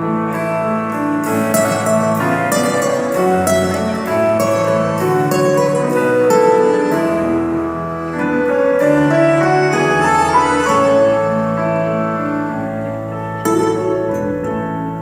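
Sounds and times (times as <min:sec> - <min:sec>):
held bass notes: 0:00.0 - 0:15.0
slow keyboard melody: 0:00.0 - 0:15.0.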